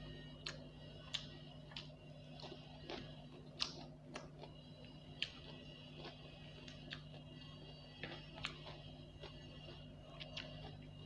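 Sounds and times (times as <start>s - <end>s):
chewing food: 0.0s - 11.0s
faint steady hum: 0.0s - 11.0s.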